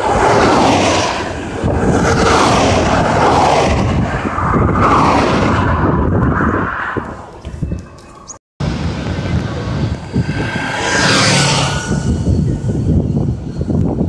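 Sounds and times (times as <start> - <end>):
rush of engines and tyres: 0.0 - 14.0.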